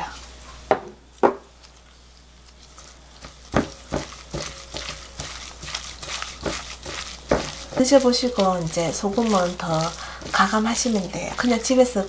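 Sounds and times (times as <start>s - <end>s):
soft squishes of greens: 1.5s - 12.0s.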